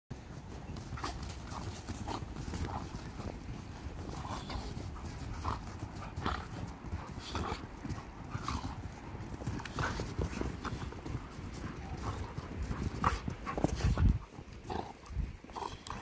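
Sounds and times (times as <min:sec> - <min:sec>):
paws scuffling in snow: 0:00.2 - 0:16.0
dogs growling: 0:00.7 - 0:16.0.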